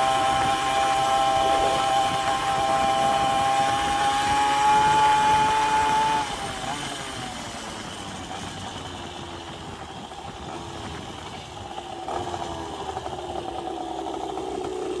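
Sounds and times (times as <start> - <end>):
two-stroke moped engine: 0.0 - 15.0.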